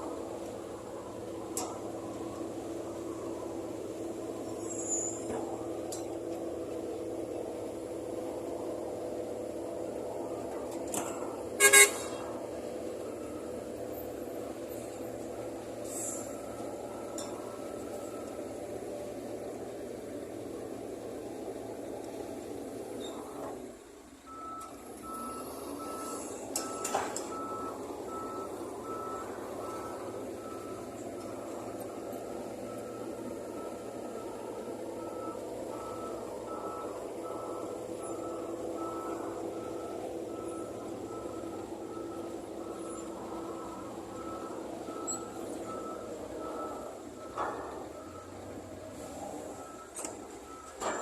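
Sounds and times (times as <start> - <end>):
reversing alarm beeping: 0.0 - 23.5, 24.3 - 51.0
engine drone: 0.0 - 51.0.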